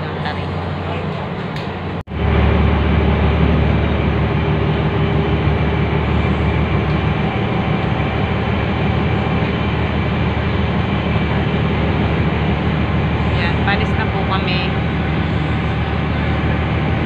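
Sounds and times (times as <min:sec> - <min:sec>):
ferry engines droning: 0:00.0 - 0:17.0
rushing noise: 0:00.0 - 0:17.0.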